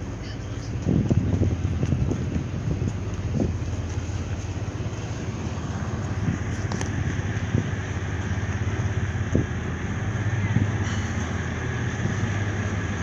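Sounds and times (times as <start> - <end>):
low engine drone: 0.0 - 13.0
outdoor noise: 0.0 - 13.0.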